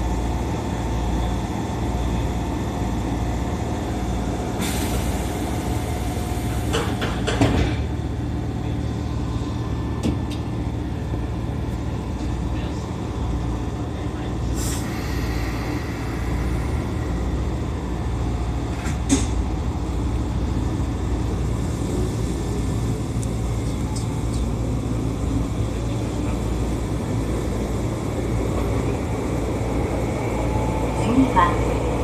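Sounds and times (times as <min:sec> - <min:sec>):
train rumbling on track: 0:00.0 - 0:32.0.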